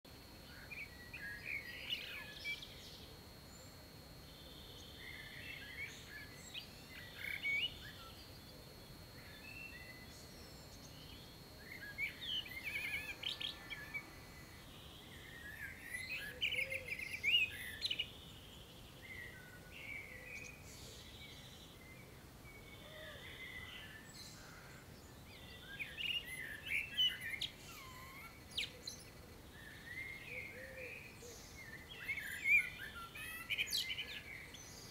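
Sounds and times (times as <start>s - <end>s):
faint steady high tone: 0.1s - 34.9s
songbirds singing: 0.1s - 34.9s.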